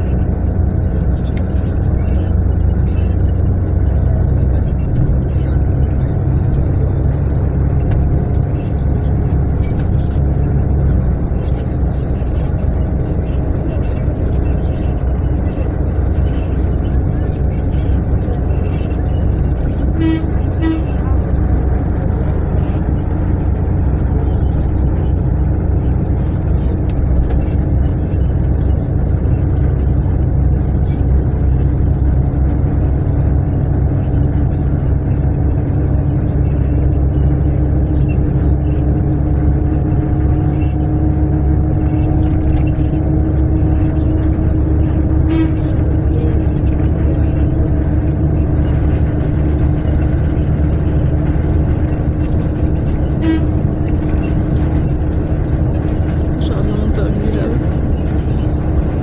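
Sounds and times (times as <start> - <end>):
bus engine and road rumble: 0.0 - 59.0
constant hum: 0.0 - 59.0.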